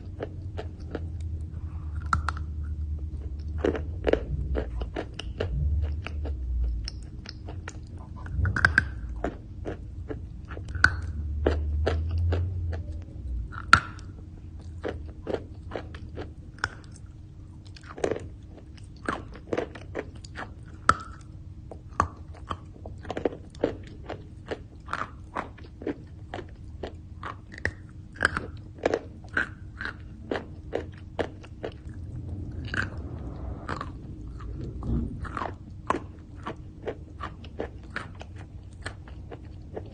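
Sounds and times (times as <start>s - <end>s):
soft grinding chewing: 0.0s - 39.9s.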